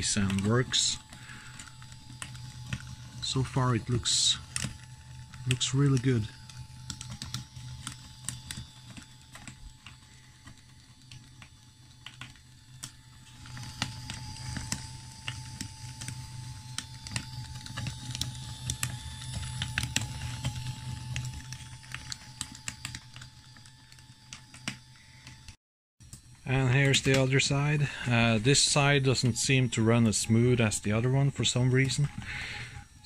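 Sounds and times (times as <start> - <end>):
electric motor hum with whine: 0.0 - 33.0.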